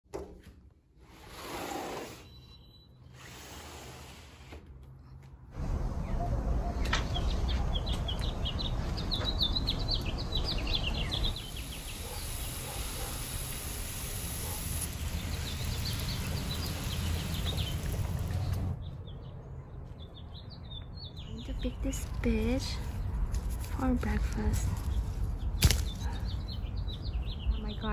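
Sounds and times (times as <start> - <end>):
small birds chirping: 2.0 - 3.4, 6.0 - 27.9.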